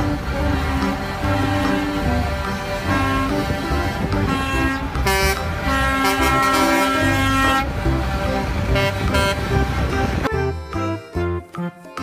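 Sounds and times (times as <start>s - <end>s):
truck air horns honking: 0.0s - 11.2s
low rumble of truck engines: 0.0s - 12.0s.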